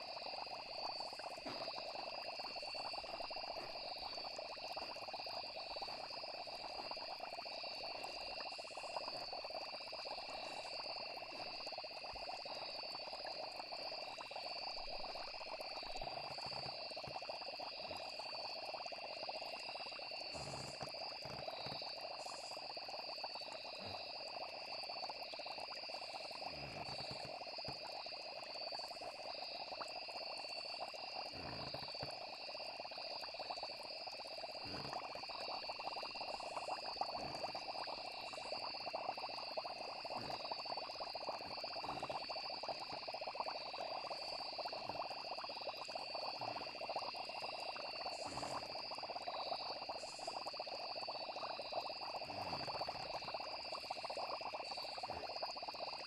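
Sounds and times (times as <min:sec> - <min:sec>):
crickets trilling: 0:00.0 - 0:56.0
frog chorus: 0:00.0 - 0:56.0.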